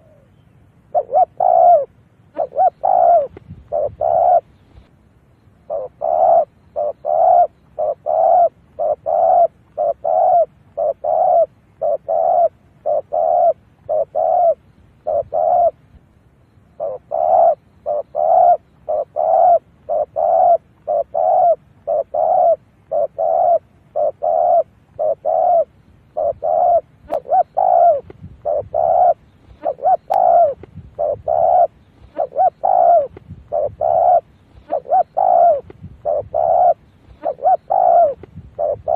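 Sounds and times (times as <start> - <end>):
dove cooing: 0.0 - 4.9, 5.6 - 16.0, 16.7 - 38.9.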